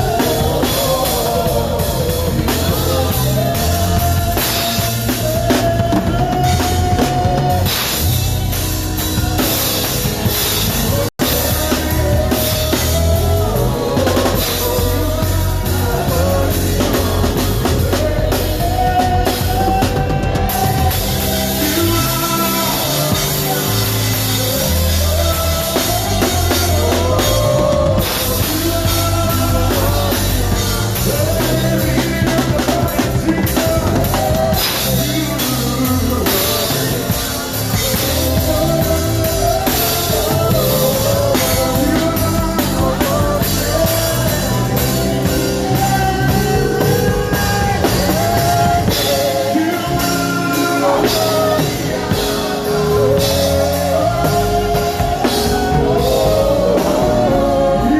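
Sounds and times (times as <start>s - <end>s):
bass line: 0.0s - 57.9s
drum kit: 0.0s - 57.9s
person singing: 0.0s - 57.9s.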